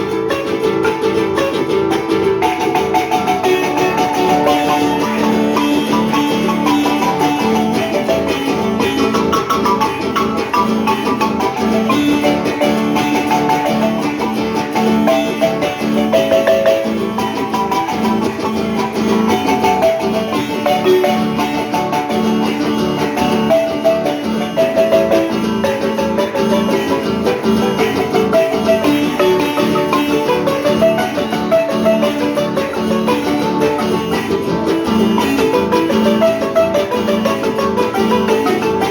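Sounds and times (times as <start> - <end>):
marimba playing a dance tune: 0.0 - 38.9.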